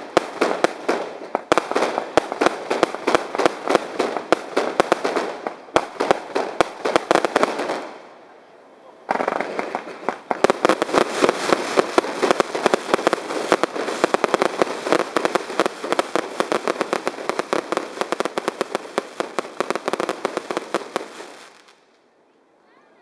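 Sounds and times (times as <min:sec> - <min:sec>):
fireworks crackling: 0:00.0 - 0:22.1.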